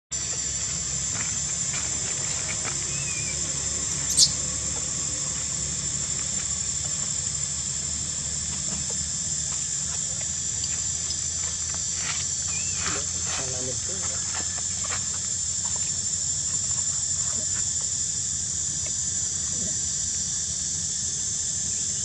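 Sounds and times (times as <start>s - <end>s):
high-pitched insect drone: 0.1s - 22.0s
low outdoor rumble: 0.1s - 22.0s.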